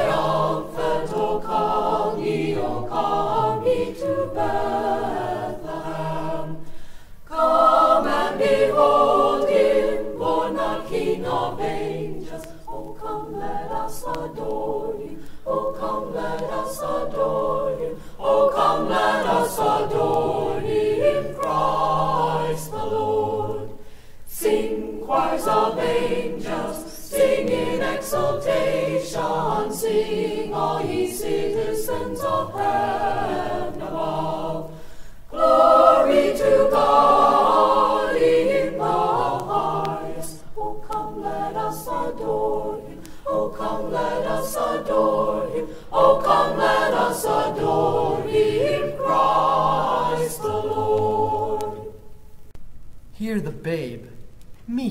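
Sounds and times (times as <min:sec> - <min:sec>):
choir singing a cappella: 0:00.0 - 0:52.4.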